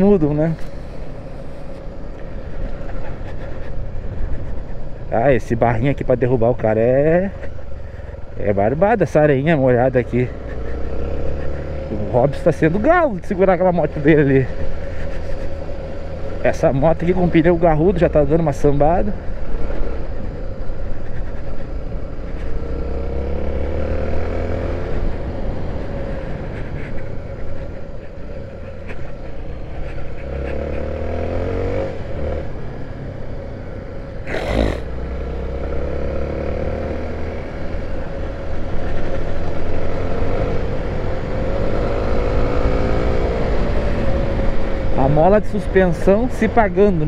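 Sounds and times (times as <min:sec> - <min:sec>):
motorcycle engine revving: 0:06.7 - 0:47.0.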